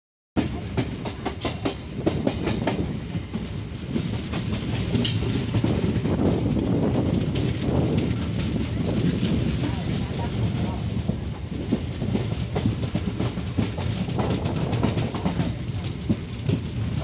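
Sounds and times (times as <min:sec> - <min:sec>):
train wheels rumbling on rails: 0:00.4 - 0:17.0.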